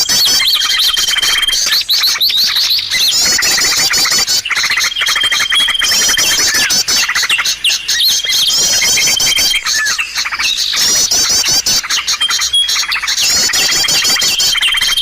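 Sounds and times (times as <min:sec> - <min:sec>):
many small birds chirping and trilling: 0:00.0 - 0:15.0.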